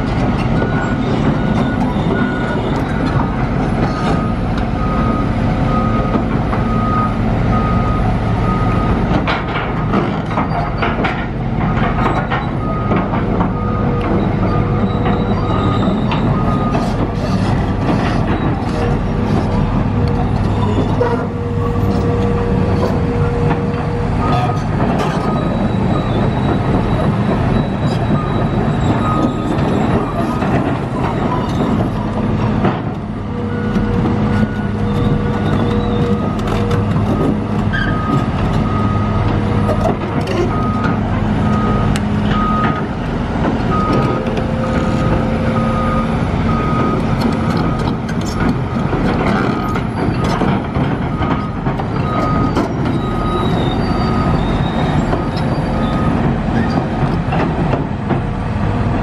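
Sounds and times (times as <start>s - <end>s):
excavator diesel engine running: 0.0s - 59.0s
steel tracks clanking: 8.3s - 59.0s.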